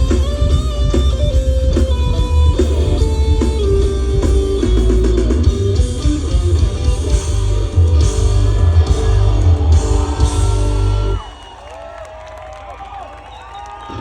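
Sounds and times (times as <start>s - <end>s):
bass guitar: 0.0s - 11.2s
electric guitar: 0.0s - 11.3s
drums: 0.0s - 14.0s.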